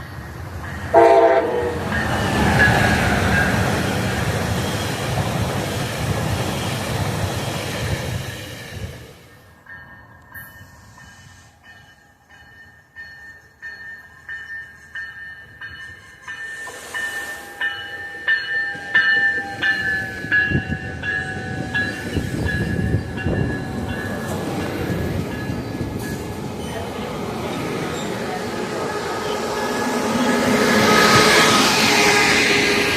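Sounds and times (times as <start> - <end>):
crossing bell ringing: 0.0 - 4.3, 9.3 - 32.9
train rumbling: 0.0 - 32.9.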